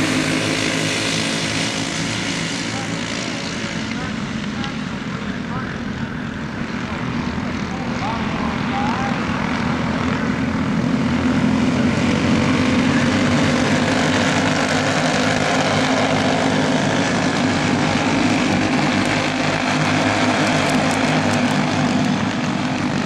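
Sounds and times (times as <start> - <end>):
go-kart engines buzzing: 0.0 - 23.0.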